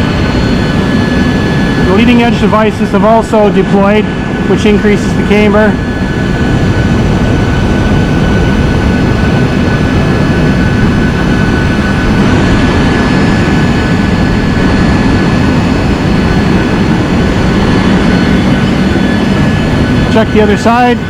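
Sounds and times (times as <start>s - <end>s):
aircraft turbine rushing: 0.0s - 21.0s
thin steady whine: 0.0s - 21.0s.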